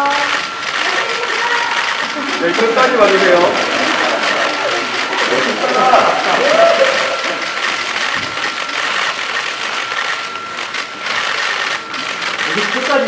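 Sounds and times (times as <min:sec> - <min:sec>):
camera shutters clicking: 0:00.1 - 0:13.0.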